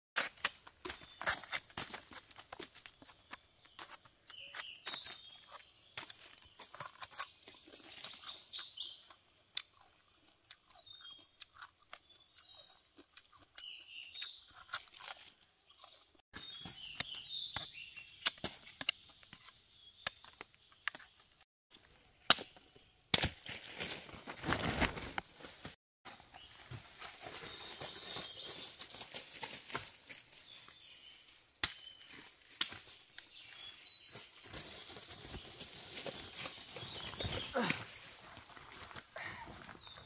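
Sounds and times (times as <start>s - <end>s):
small birds chirping: 0.8s - 23.1s, 26.1s - 40.0s.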